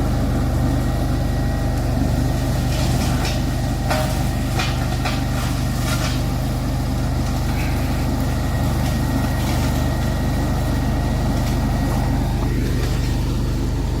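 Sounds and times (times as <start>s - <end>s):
mower engine droning: 0.0s - 14.0s.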